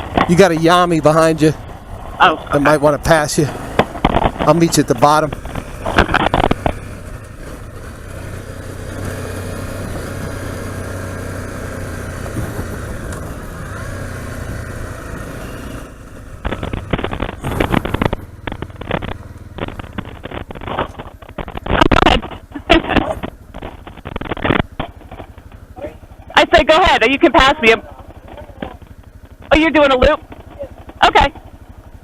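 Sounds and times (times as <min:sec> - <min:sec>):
dirt bike engine running: 0:00.0 - 0:32.0.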